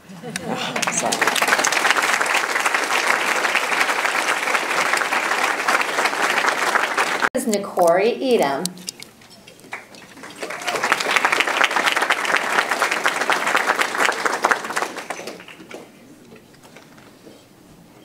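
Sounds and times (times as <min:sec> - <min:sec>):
audience applauding: 0:00.0 - 0:07.3, 0:09.2 - 0:17.1.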